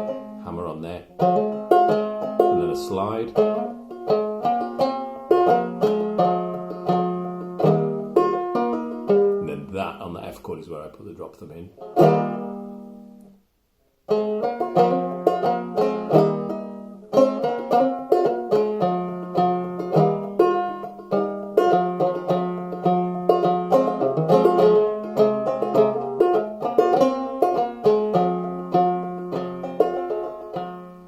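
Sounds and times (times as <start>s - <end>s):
banjo played clawhammer style: 0.0s - 31.0s.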